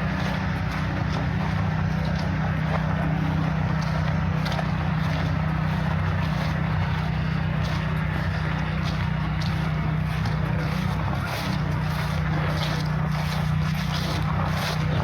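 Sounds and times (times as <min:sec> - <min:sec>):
footsteps on path: 0:00.0 - 0:15.0.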